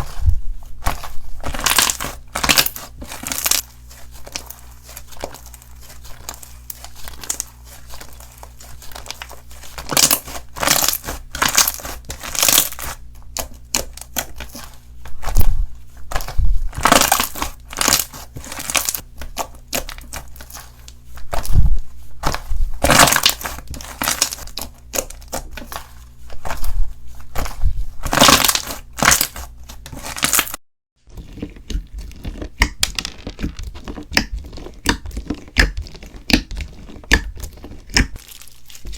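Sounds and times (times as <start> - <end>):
slime crackling and crunching: 0.0 - 38.9.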